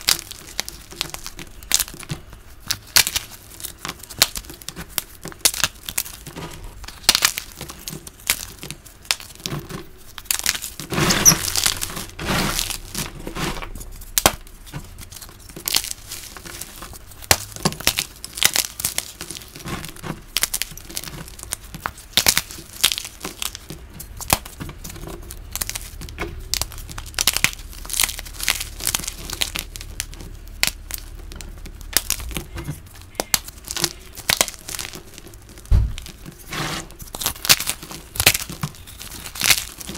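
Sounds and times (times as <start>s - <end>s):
chalk blocks crunching and crumbling: 0.0s - 39.9s.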